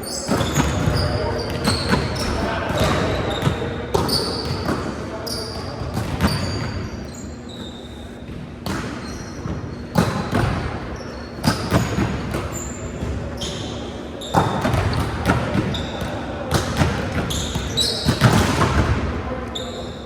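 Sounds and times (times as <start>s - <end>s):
sneakers squeaking on court: 0.0s - 20.0s
volleyball strikes: 0.3s - 7.0s, 7.7s - 13.7s, 14.3s - 19.2s.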